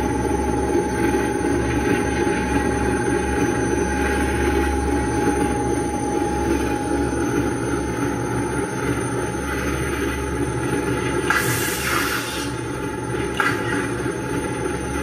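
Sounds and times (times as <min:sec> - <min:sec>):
low drone: 0:00.0 - 0:15.0
mid-pitched whine: 0:00.0 - 0:15.0.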